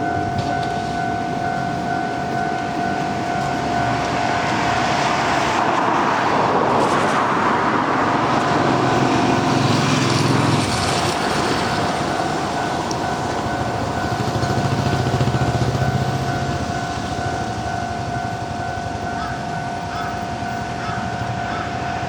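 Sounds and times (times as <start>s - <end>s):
electric train passing: 0.0s - 22.0s
level crossing alarm ringing: 0.0s - 22.0s.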